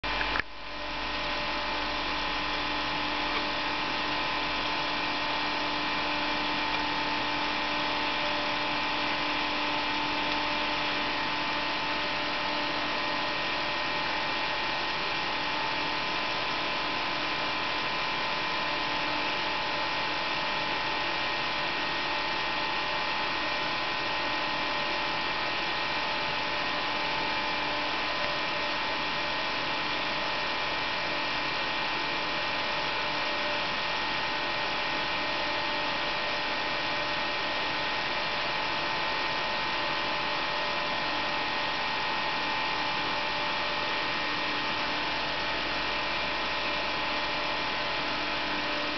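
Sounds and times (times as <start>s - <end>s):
cooling fan whirring: 0.0s - 48.9s.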